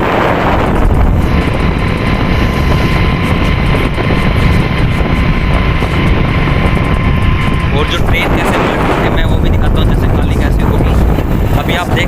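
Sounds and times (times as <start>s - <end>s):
heavy machinery rumble: 0.0s - 12.0s
high machine whine: 0.0s - 12.0s.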